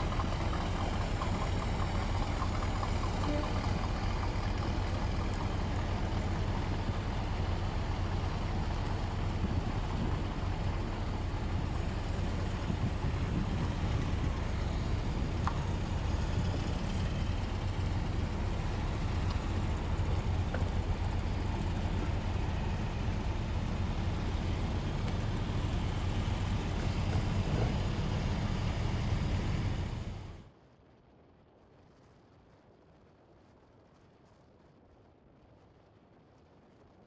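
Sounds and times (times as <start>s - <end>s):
cars driving slowly past: 0.0s - 30.5s.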